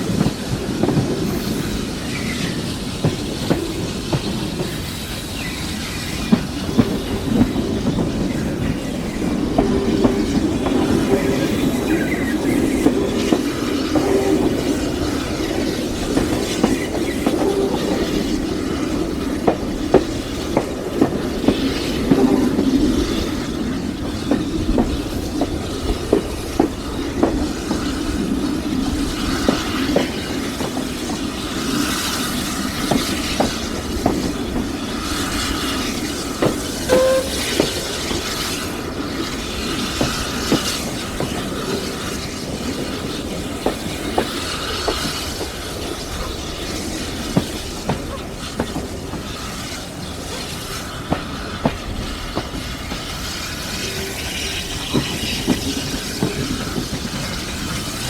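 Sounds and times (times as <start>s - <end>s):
steam hiss: 0.0s - 58.0s
train rumble: 0.0s - 58.0s
train wheels clicking over rail joints: 0.0s - 58.0s.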